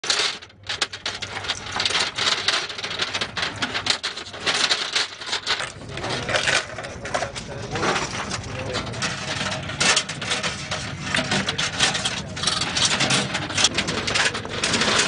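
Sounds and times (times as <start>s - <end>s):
cartridge belt rattling and clinking: 0.0s - 15.0s.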